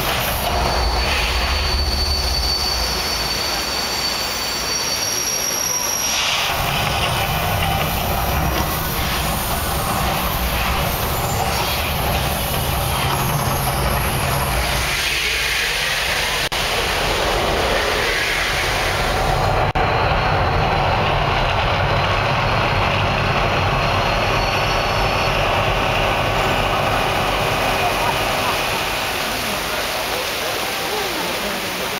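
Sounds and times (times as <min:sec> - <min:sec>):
loud rumble and rushing noise: 0:00.0 - 0:04.6, 0:05.8 - 0:30.8
high hiss: 0:00.0 - 0:19.7, 0:24.4 - 0:31.9.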